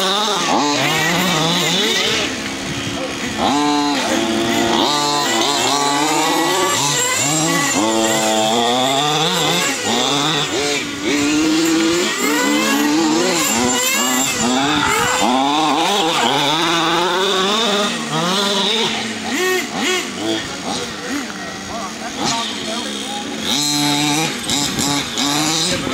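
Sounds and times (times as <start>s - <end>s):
small two-stroke engine revving: 0.0s - 25.9s.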